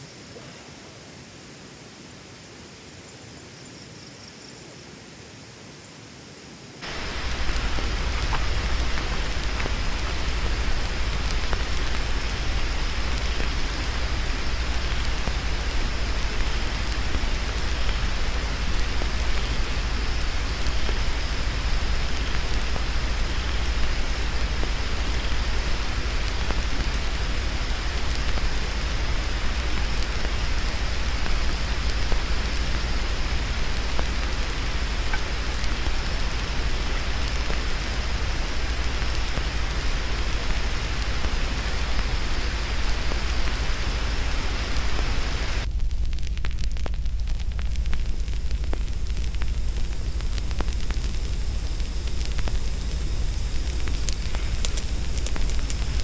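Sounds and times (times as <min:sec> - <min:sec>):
heavy rain falling: 0:06.8 - 0:56.0
low rumble: 0:06.8 - 0:56.0.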